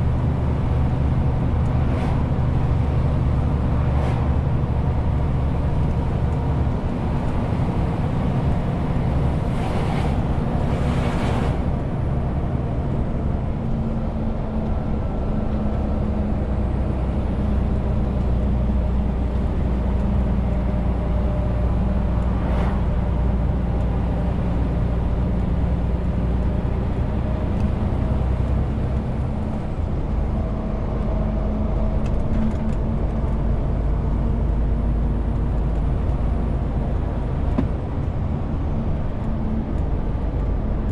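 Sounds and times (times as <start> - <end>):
road noise: 0.0 - 40.9.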